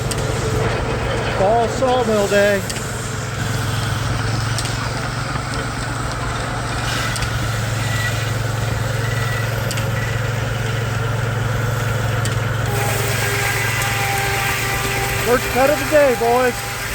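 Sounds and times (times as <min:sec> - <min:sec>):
sawmill turning: 0:00.0 - 0:16.9
steam engine running: 0:00.0 - 0:16.9.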